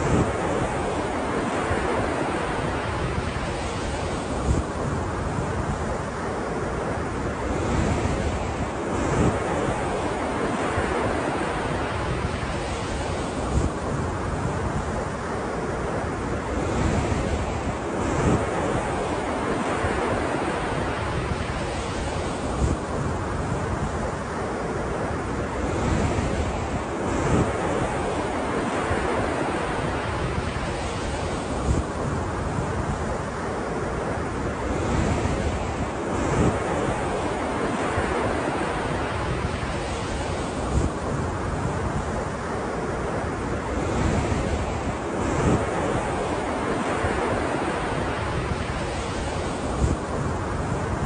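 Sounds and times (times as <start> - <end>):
ocean waves breaking on shore: 0.0 - 51.0
wind rumble on microphone: 0.0 - 51.0.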